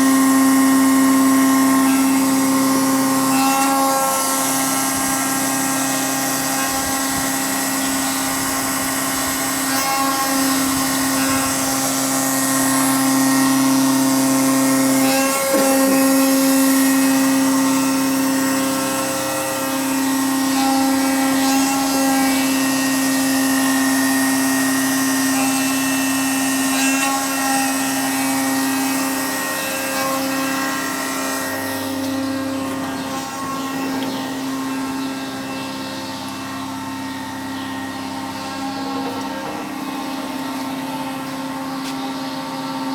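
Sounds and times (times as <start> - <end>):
grinder machine hum: 0.0 - 42.9.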